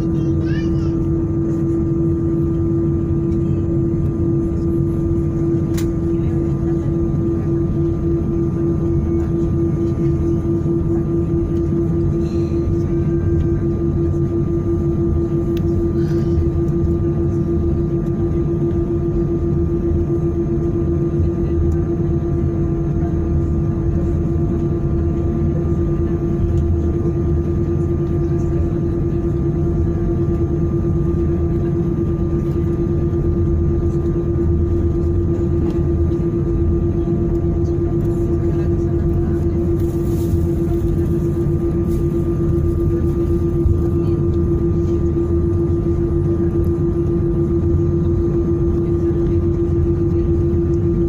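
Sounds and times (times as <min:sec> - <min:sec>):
jet engine hum in cabin: 0:00.0 - 0:51.0.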